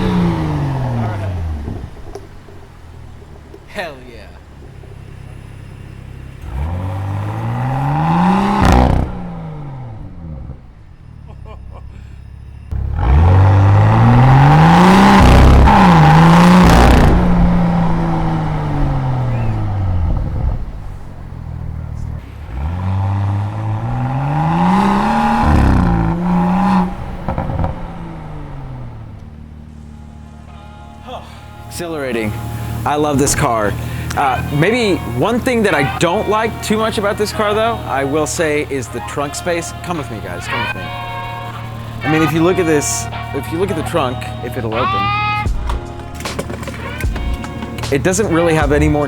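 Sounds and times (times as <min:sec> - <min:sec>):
car engine accelerating hard: 0:00.0 - 0:49.0
exhaust crack at gear change: 0:00.0 - 0:49.0.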